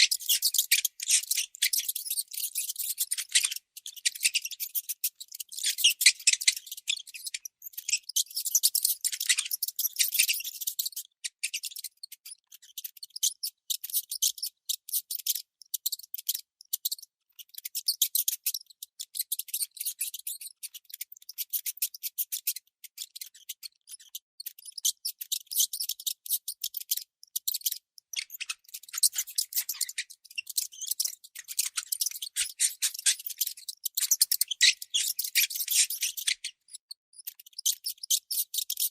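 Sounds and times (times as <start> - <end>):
baby mouse squeaking: 0.0 - 38.9.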